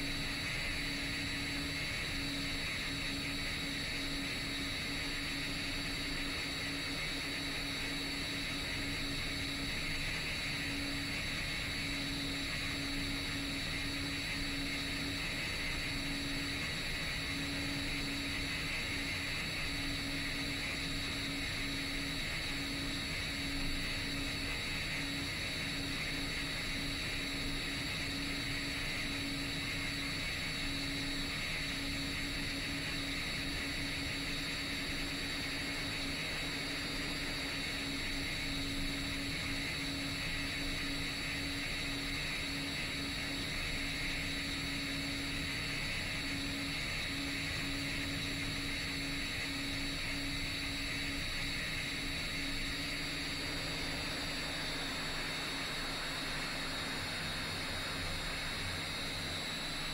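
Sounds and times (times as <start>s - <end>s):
quadcopter motors and propellers drone: 0.0s - 59.9s.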